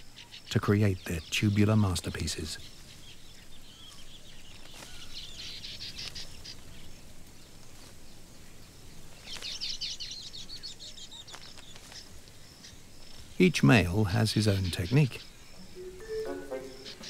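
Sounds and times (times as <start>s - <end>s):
birds chirping: 0.0s - 17.0s
outdoor background noise: 0.0s - 17.0s.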